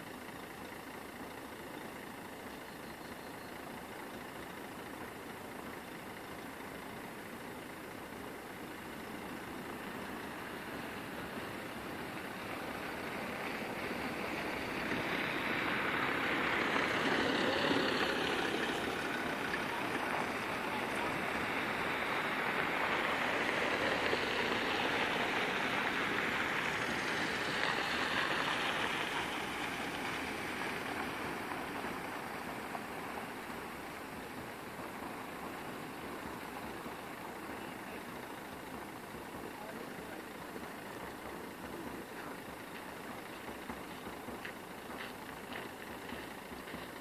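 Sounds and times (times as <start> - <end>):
cars driving past on dirt: 0.0 - 47.0.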